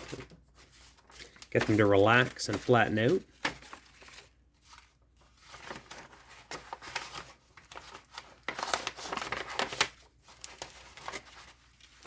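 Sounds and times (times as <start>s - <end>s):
paper crinkles and taps: 0.0s - 12.0s
paper pages rustling: 0.0s - 12.0s.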